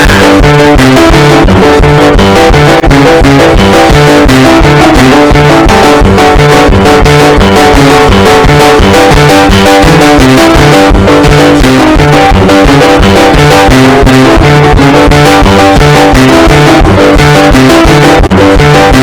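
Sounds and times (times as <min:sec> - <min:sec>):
guitar-led instrumental music: 0:00.0 - 0:19.0.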